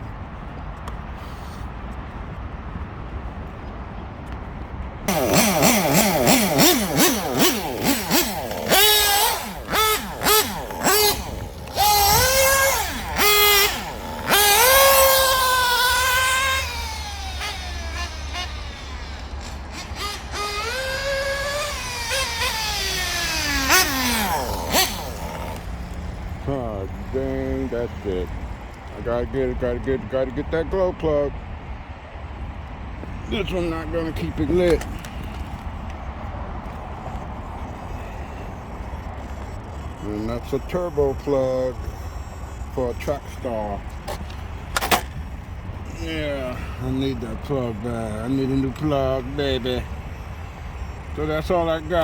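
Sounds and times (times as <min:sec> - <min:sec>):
model car engine revving and idling: 0:05.1 - 0:31.2, 0:33.3 - 0:35.6, 0:36.6 - 0:52.0.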